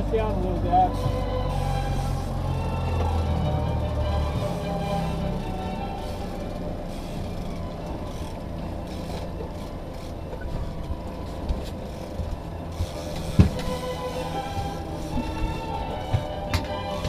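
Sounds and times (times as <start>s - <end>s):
outboard motor humming: 0.0s - 17.0s
wind: 0.0s - 17.0s.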